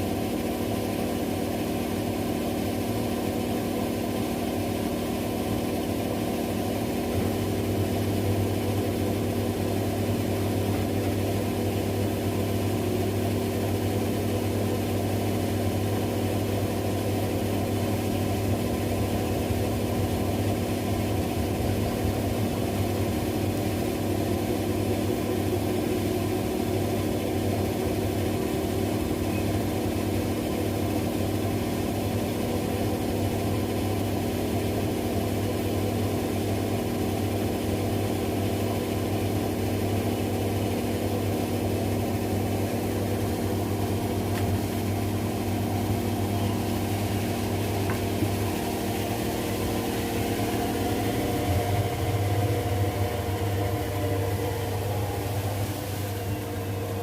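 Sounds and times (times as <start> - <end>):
washing machines spinning: 0.0 - 57.0.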